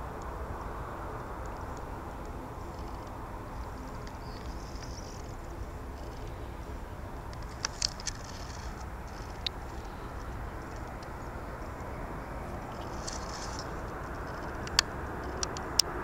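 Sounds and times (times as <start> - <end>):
birds chirping: 0.0 - 16.0
distant jet engines idling: 0.0 - 16.0.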